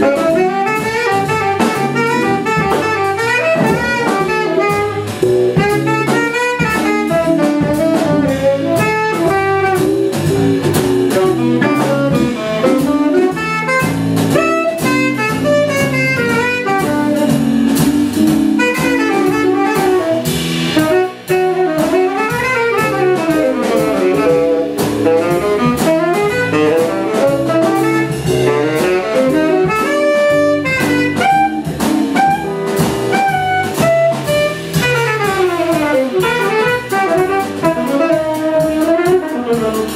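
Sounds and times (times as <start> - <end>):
drum kit with cymbals: 0.0 - 39.9
electric bass: 0.0 - 39.9.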